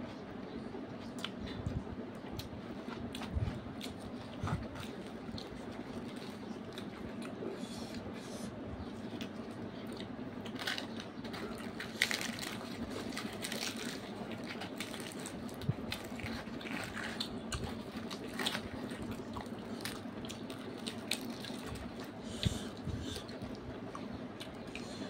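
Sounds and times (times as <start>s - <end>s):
steady low hum: 0.0s - 25.0s
chewing and wet mouth noises: 0.9s - 25.0s.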